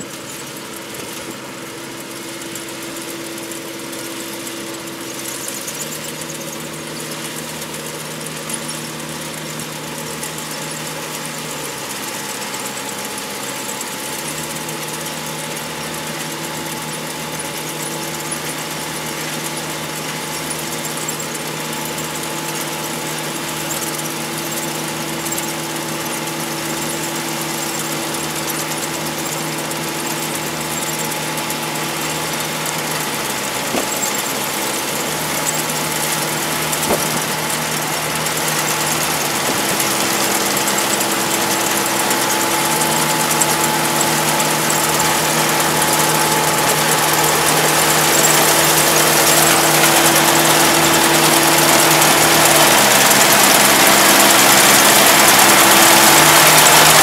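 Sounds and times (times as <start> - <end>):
combine harvester diesel engine: 0.0 - 57.0
high machine whine: 0.0 - 57.0.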